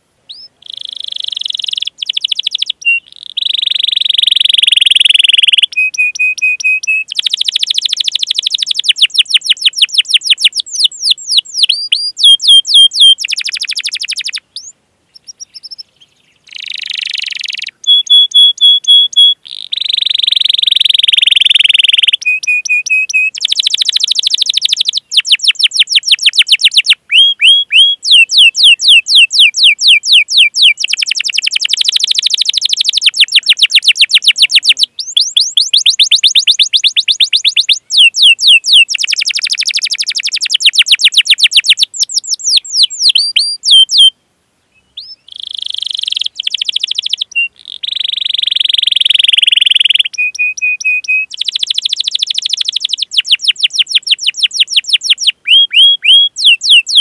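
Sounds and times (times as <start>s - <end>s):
canary singing: 0.3s - 44.2s, 44.8s - 57.0s.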